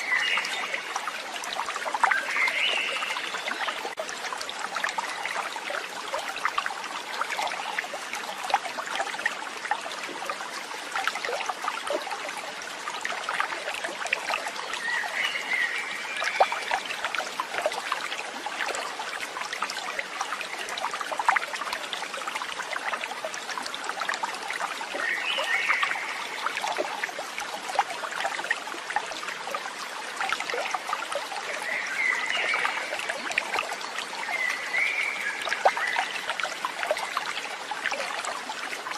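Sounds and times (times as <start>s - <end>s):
stream trickling and babbling: 0.0s - 38.9s.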